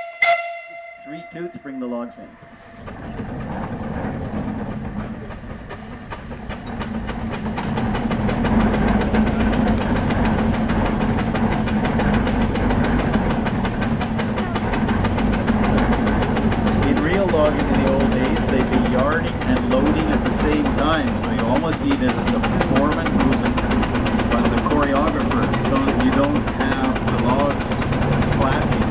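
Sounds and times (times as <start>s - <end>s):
steam winch engine hum: 0.0s - 28.9s
steam hissing: 2.2s - 28.9s.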